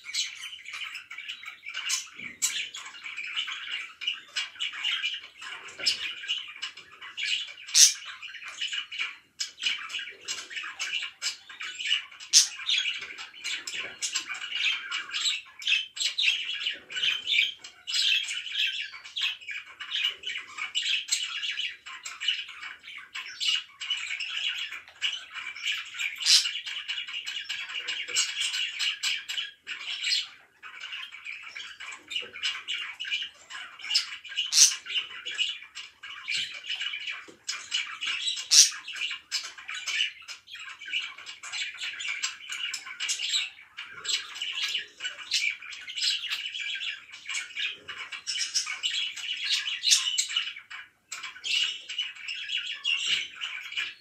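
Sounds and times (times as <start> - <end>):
budgerigars chirping and chattering: 0.0 - 54.0
sharp bird calls: 0.0 - 54.0.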